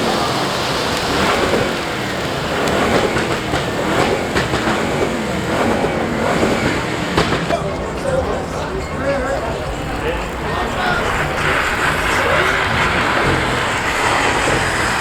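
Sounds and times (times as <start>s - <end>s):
car engine revving: 0.0s - 15.0s
steady rushing noise: 0.0s - 15.0s.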